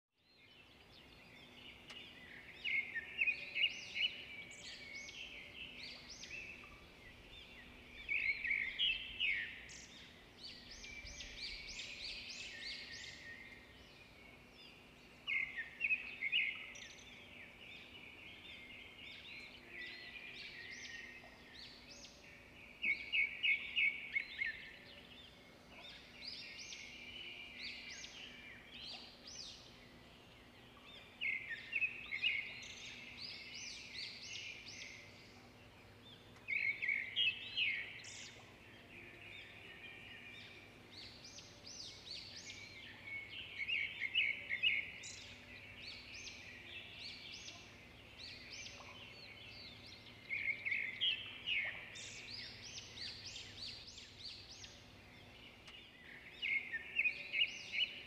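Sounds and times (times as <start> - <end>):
small birds chirping: 0.2 - 58.0.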